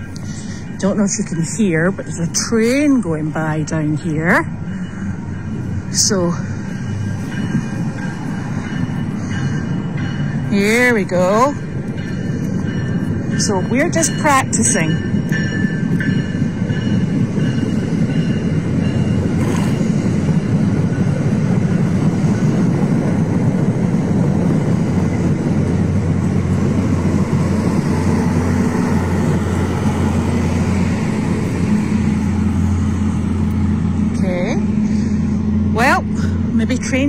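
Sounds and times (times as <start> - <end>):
passenger train rumbling past: 0.0 - 37.0.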